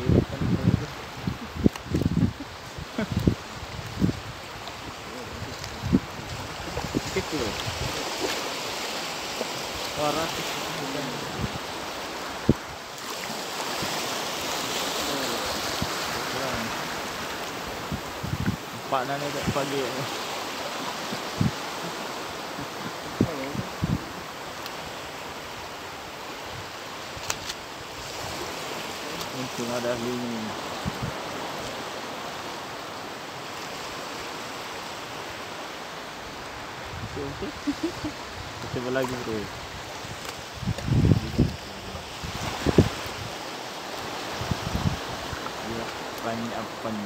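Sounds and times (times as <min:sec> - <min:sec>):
waves washing over rocks: 0:00.0 - 0:47.0
wind on microphone: 0:00.0 - 0:47.0.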